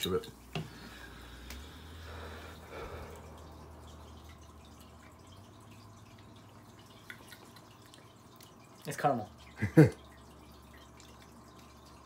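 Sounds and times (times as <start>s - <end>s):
faint fizzing bubbles: 0.0s - 12.0s.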